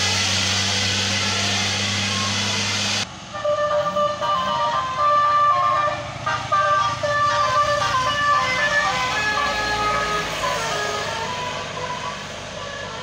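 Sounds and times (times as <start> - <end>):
bus engine: 0.0 - 13.0
bus horn playing melody: 1.2 - 13.0.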